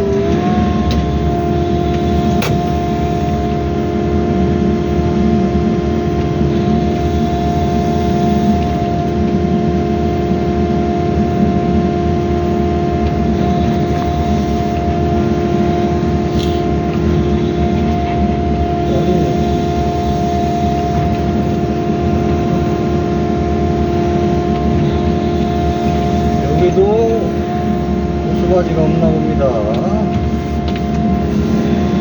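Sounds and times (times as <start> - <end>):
excavator engine and hydraulics: 0.0 - 32.0.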